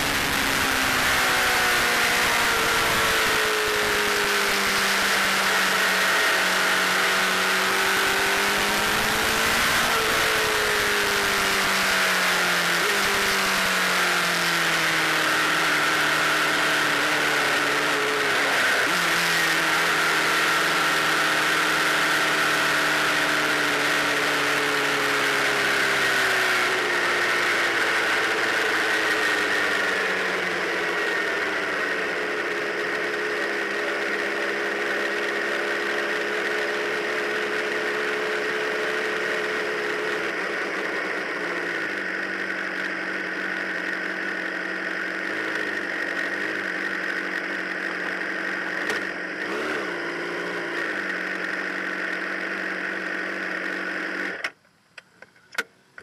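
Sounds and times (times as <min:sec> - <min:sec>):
motorcycle engine at speed: 0:00.0 - 0:56.0.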